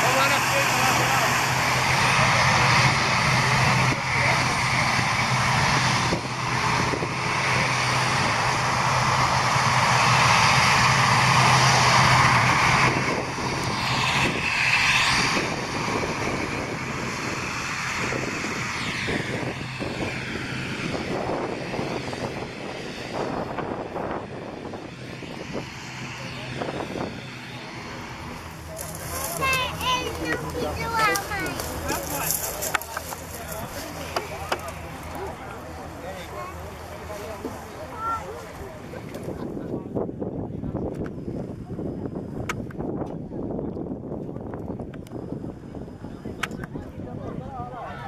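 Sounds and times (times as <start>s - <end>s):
turboprop engines droning: 0.0s - 48.0s.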